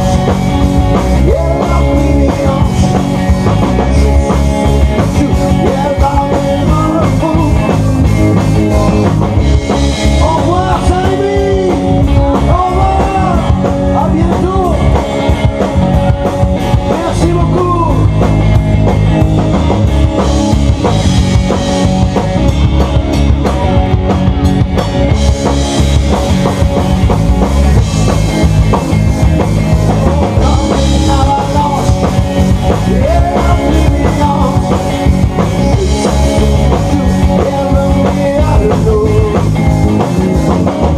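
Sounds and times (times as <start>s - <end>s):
bass guitar: 0.0s - 40.9s
drum kit: 0.0s - 40.9s
electric guitars: 0.0s - 40.9s.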